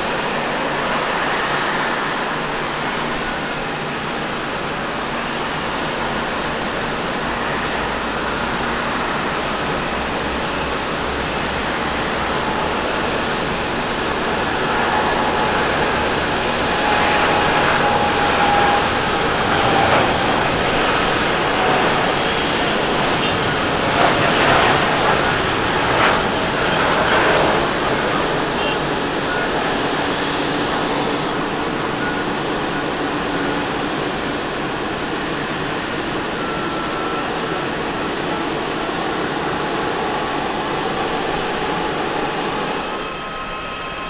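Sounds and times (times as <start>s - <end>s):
jet engines at takeoff thrust: 0.0s - 44.0s.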